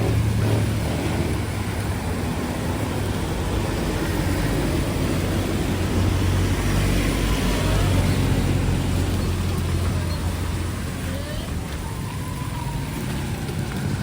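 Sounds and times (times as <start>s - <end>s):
road hiss: 0.0s - 14.0s
vehicle engine droning: 0.0s - 14.0s.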